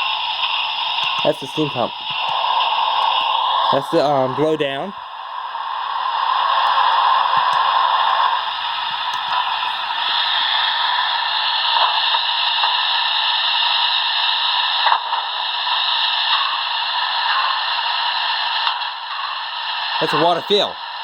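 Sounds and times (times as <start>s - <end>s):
steam hiss from small speaker: 0.0s - 21.0s.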